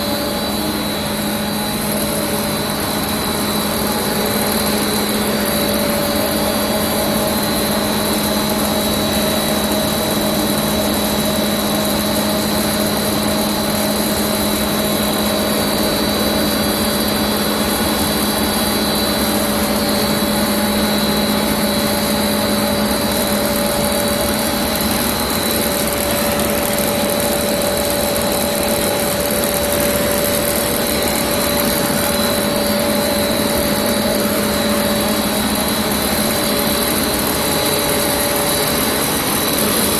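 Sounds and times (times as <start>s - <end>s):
machine drone with high whine: 0.0s - 39.9s.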